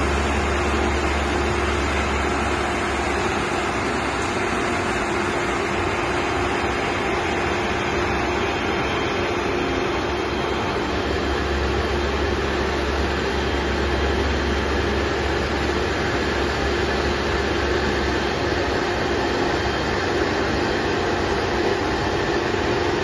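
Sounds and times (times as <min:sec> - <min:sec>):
machine running drone: 0:00.0 - 0:23.0.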